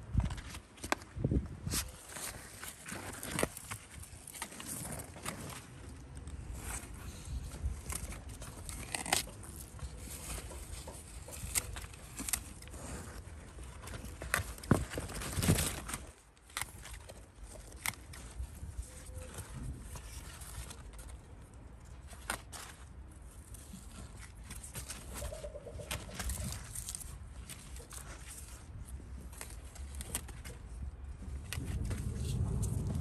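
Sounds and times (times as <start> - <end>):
leaves rustling and crackling: 0.2 - 33.0.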